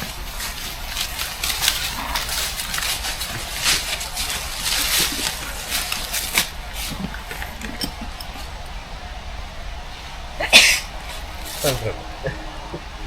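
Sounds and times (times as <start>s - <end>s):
rustling and crunching: 0.0s - 9.2s, 10.8s - 13.0s.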